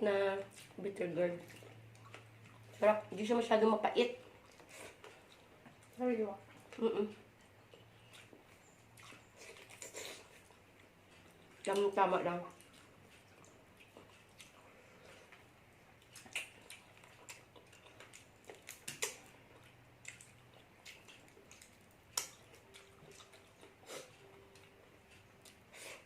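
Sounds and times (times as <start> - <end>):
chewing clicks and mouth smacks: 1.4 - 2.8, 4.2 - 26.0.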